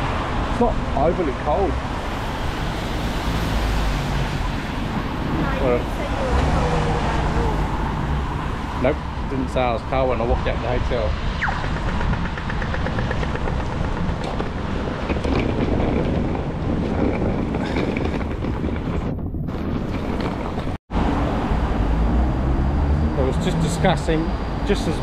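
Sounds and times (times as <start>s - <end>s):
traffic on wet roads: 0.0s - 16.8s, 20.2s - 25.0s
wind buffeting microphone: 0.0s - 23.1s.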